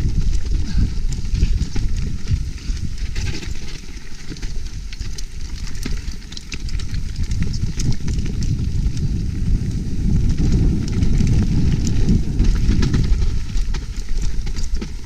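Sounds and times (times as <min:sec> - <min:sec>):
bike clicks and rattles: 0:00.0 - 0:15.0
bike tyres rumbling on dirt: 0:00.0 - 0:15.0
wind buffeting microphone: 0:00.0 - 0:15.0.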